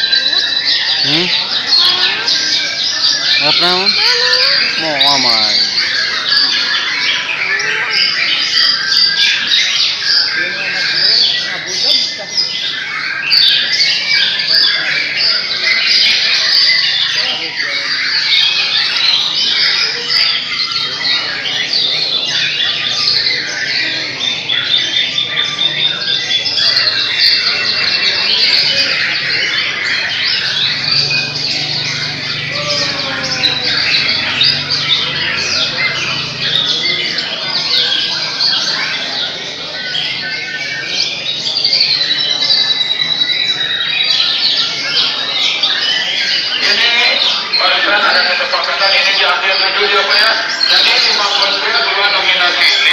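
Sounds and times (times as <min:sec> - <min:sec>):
songbirds chorus: 0:00.0 - 0:52.9.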